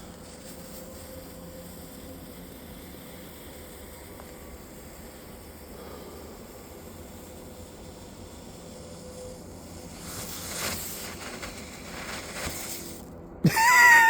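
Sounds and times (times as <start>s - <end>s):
firework hissing: 0.0s - 14.0s.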